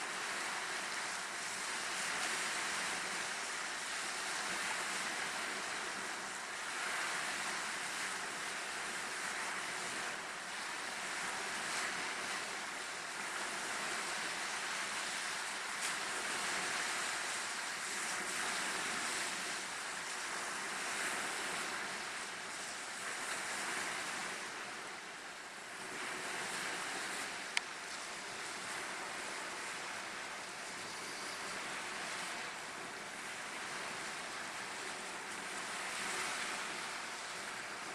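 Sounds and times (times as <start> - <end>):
wind: 0.0 - 37.9.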